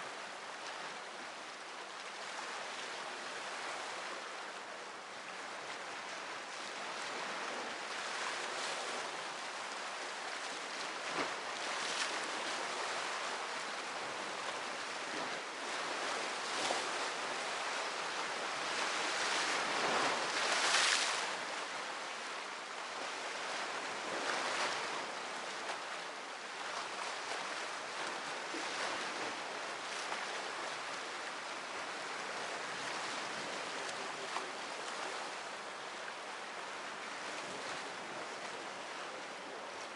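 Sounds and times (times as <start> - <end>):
sea surf washing ashore: 0.0 - 39.9.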